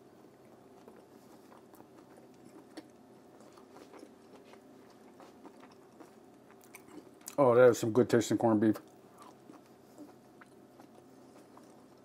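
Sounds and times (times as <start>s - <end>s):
faint chewing: 0.0s - 7.4s, 8.8s - 12.0s.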